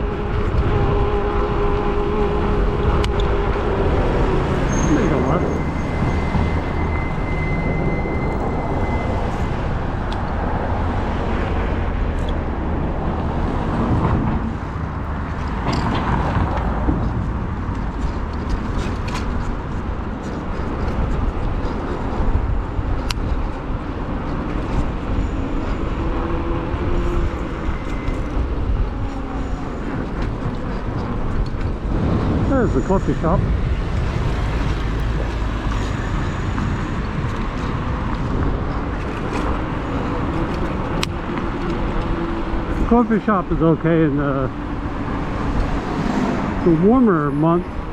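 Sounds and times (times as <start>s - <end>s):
cars passing by: 0.0s - 47.9s
road traffic and wind rushing: 0.0s - 47.9s.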